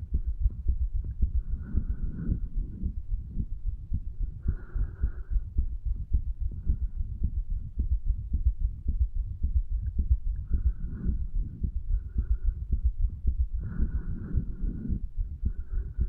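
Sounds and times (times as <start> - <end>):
human heartbeat thuds: 0.0 - 16.0.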